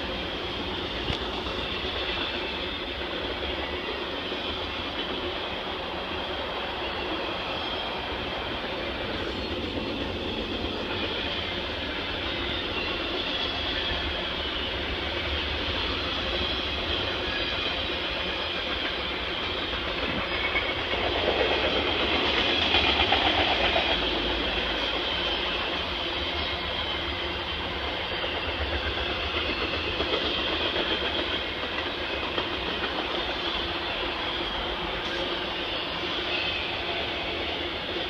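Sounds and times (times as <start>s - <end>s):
freight train wheels rumbling on rails: 0.0s - 38.0s.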